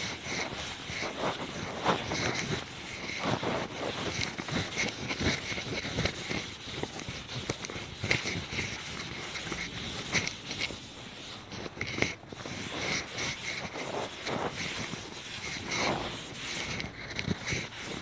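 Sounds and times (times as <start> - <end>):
cloth wiping a chalkboard: 0.0 - 18.0.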